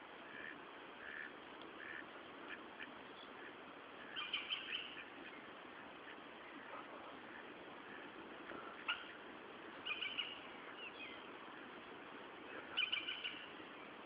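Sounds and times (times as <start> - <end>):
faint outdoor hiss: 0.0 - 14.0
small birds chirping: 0.2 - 14.0.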